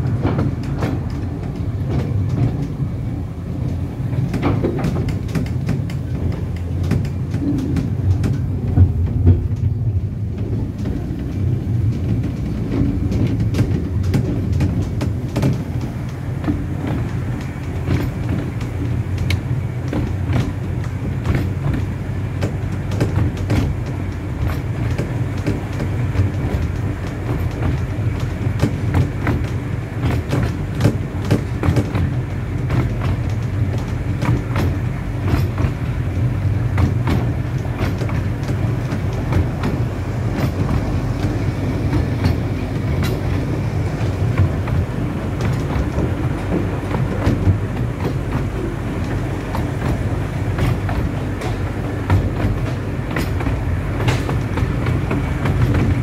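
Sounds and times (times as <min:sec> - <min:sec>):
train rumbling: 0:00.0 - 0:56.0
wheels clicking over track: 0:00.0 - 0:56.0.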